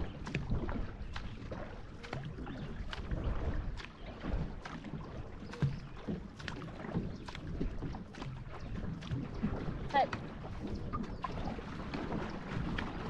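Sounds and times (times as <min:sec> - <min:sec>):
paddle strokes splashing water: 0:00.0 - 0:13.0
wind rumble on microphone: 0:00.0 - 0:13.0.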